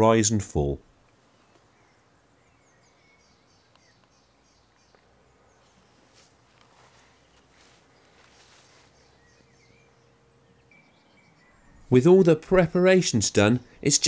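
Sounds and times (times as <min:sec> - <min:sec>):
soft outdoor hush: 0:00.0 - 0:14.0.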